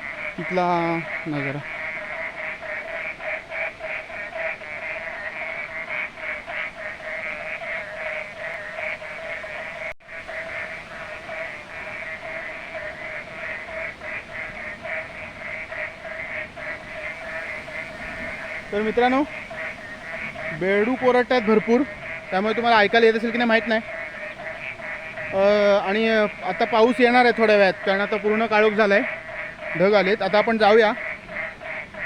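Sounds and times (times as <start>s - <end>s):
frogs croaking: 0.0s - 32.0s.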